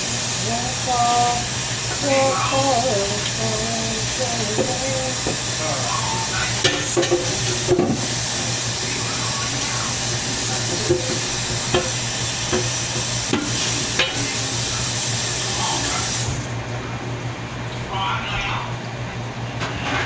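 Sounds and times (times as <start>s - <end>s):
zucchini sizzling in oil: 0.0s - 16.4s.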